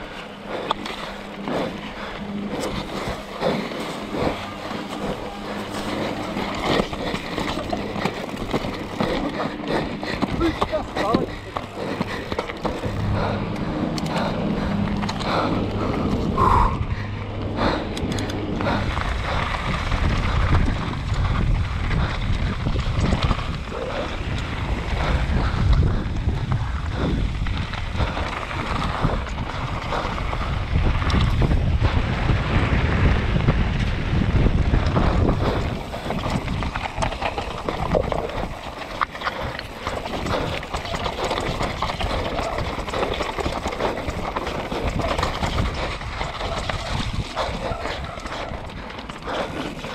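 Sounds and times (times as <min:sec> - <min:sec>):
bike tyres crunching on scree: 0:00.0 - 0:49.9
wind buffeting microphone: 0:00.0 - 0:49.9.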